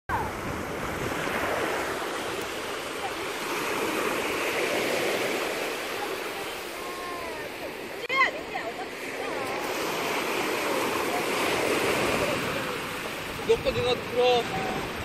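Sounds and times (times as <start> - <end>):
sea waves washing on shore: 0.1 - 15.0
faint voices calling: 2.8 - 15.0.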